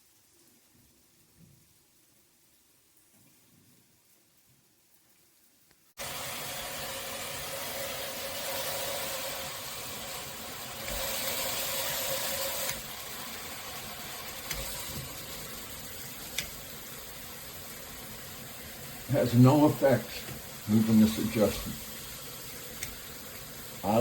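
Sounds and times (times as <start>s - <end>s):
shower spraying water: 0.0s - 24.0s.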